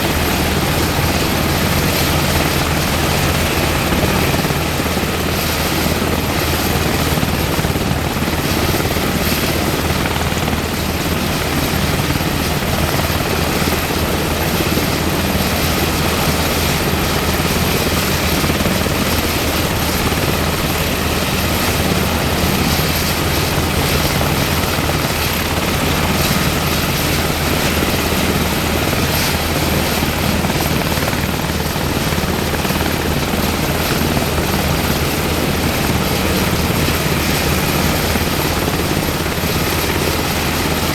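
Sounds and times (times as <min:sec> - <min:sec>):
helicopter engines and rotor: 0:00.0 - 0:40.9.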